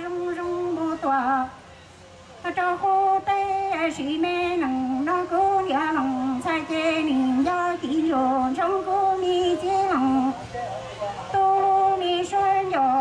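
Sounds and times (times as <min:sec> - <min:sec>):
woman singing into microphone: 0:00.0 - 0:01.7, 0:02.4 - 0:10.4, 0:11.3 - 0:13.0.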